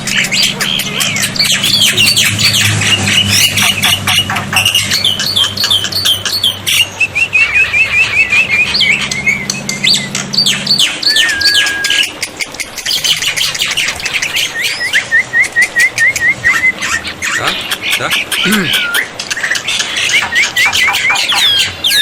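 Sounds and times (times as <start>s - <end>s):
low hum: 0.0s - 17.8s
starling calling: 0.0s - 22.0s.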